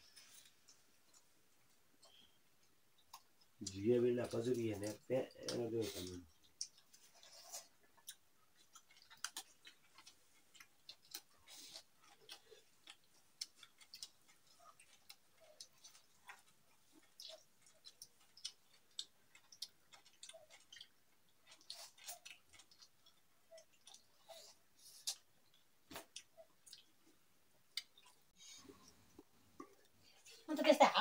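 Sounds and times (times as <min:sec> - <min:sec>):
people chewing: 0:00.0 - 0:30.7.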